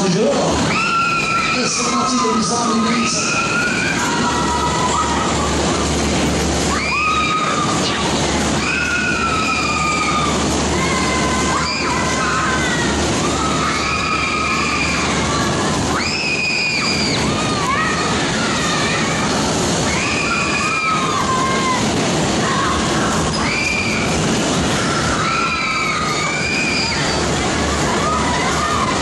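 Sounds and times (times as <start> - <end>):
ride cars rushing and rumbling: 0.0 - 29.0
riders screaming: 0.6 - 29.0.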